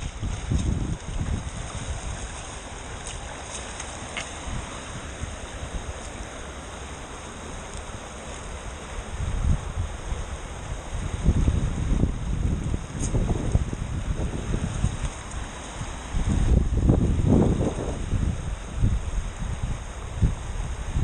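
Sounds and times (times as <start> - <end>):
river rushing: 0.0 - 21.0
wind buffeting microphone: 0.0 - 21.0.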